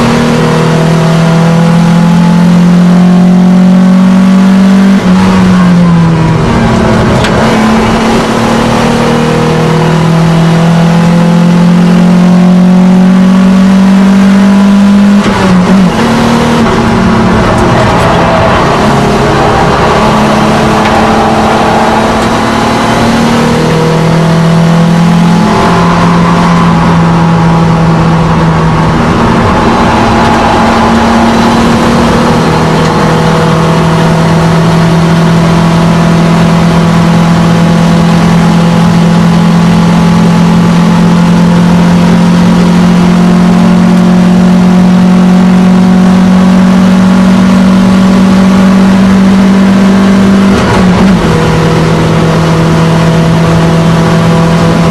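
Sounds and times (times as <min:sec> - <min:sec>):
car engine under hard throttle: 0:00.0 - 0:54.9
road and wind noise: 0:00.0 - 0:54.9.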